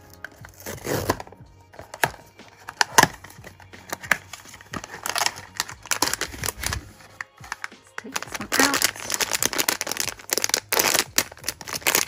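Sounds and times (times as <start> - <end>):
contents rustling: 0.0 - 12.0.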